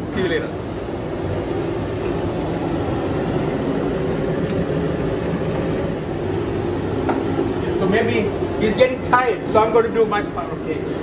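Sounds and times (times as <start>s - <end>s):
exhaust fan drone: 0.0s - 11.0s.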